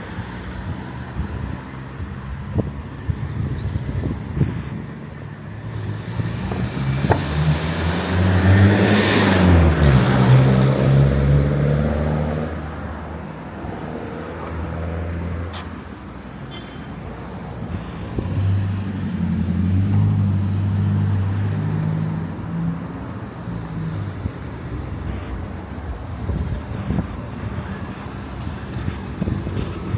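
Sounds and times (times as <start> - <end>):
vehicle engines humming: 0.0 - 29.9.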